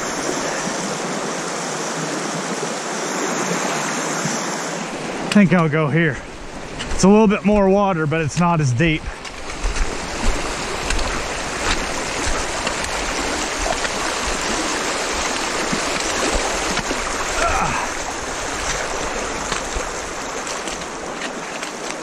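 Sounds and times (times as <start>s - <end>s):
creek water flowing: 0.0s - 22.0s
person wading through water: 0.0s - 22.0s.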